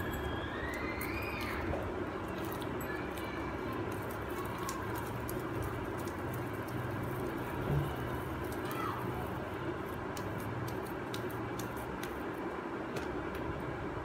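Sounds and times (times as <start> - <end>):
hands kneading clay: 0.0 - 13.8.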